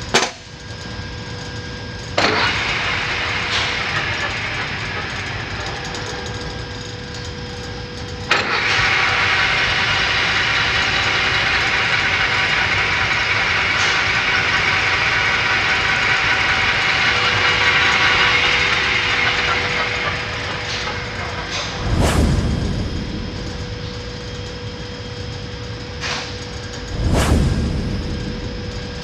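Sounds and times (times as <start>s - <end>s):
metal lathe spindle running: 1.6s - 27.1s.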